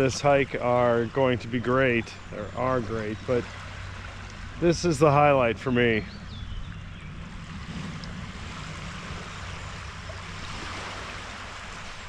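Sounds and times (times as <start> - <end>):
rushing water: 0.0 - 12.0
low rumble: 1.4 - 11.8.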